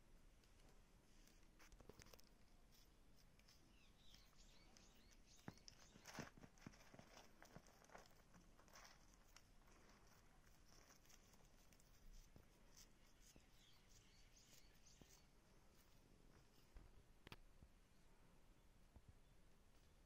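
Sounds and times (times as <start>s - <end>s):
soft scratches and ticks: 0.4s - 17.7s.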